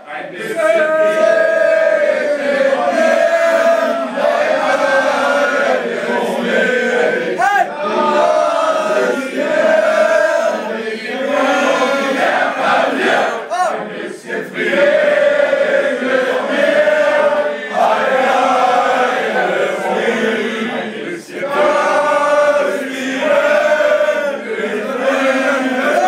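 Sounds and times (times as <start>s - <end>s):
men singing long held notes: 0.0s - 26.0s.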